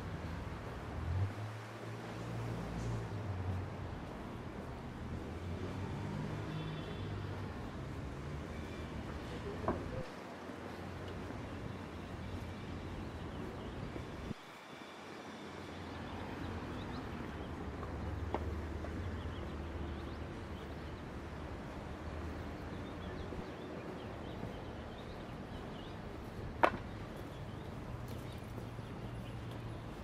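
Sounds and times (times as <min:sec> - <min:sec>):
traffic: 0:00.0 - 0:30.0.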